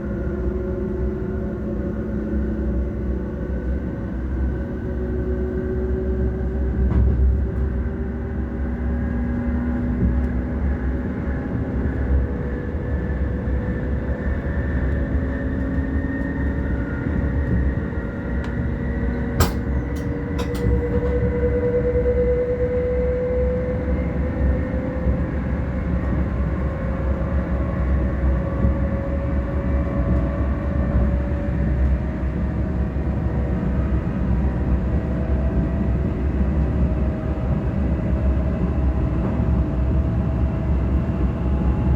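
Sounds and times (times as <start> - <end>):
electric train rumble: 0.0 - 41.9.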